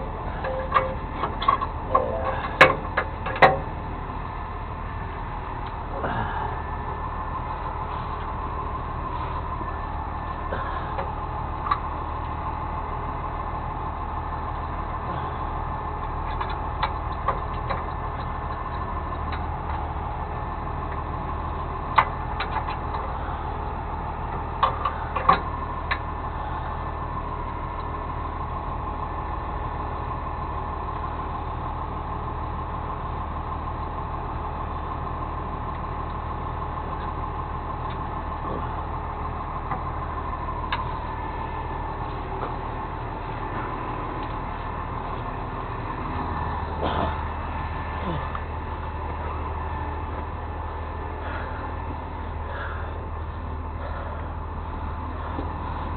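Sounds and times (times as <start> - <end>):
truck engine idling with whine: 0.0 - 55.9.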